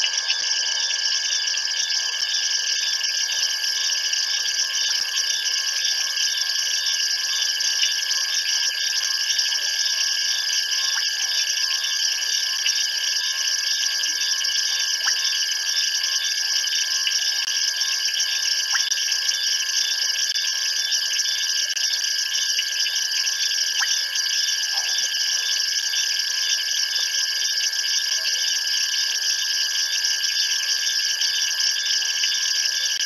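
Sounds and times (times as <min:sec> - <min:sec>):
high-pitched insect tone: 0:00.0 - 0:33.0
insects trilling: 0:00.0 - 0:33.0.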